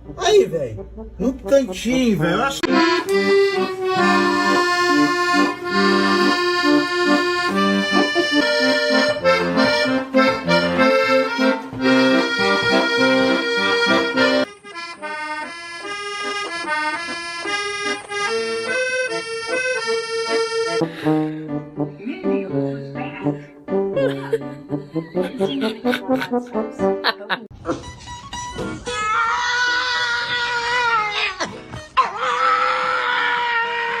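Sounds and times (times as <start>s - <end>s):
accordion chords: 0.0s - 28.8s.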